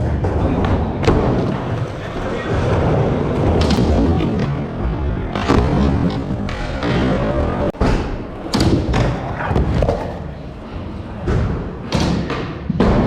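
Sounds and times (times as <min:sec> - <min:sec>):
skateboard wheels rumbling: 0:00.0 - 0:13.0
skateboard impacts on ramp: 0:00.6 - 0:13.0.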